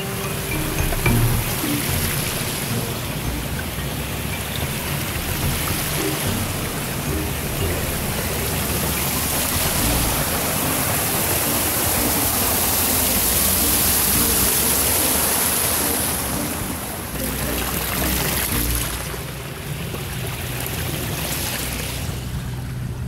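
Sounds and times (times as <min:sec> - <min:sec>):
waterfall splashing into pool: 0:00.0 - 0:22.6.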